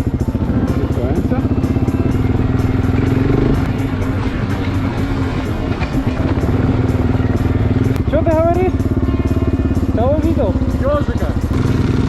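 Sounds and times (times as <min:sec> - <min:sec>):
motorcycle engine running: 0:00.0 - 0:12.0
music with steady beat: 0:00.0 - 0:12.0.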